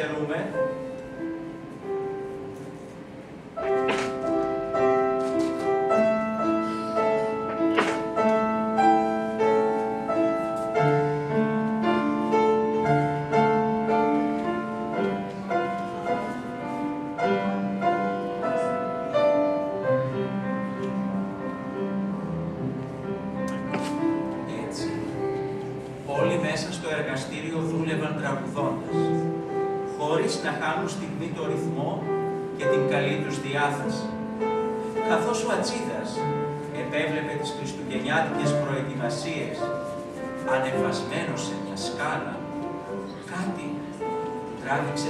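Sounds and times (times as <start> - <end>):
slow piano melody: 0.0 - 45.0.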